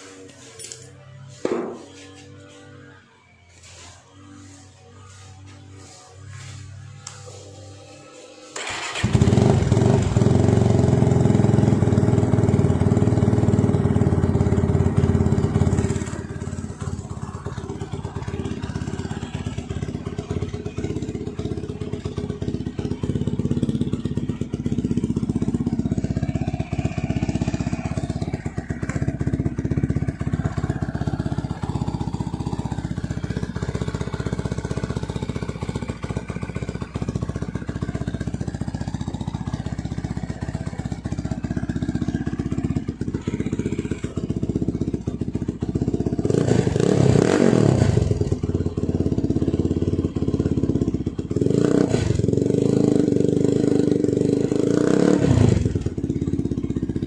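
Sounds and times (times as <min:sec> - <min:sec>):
motorcycle engine idling: 0:04.3 - 0:57.0.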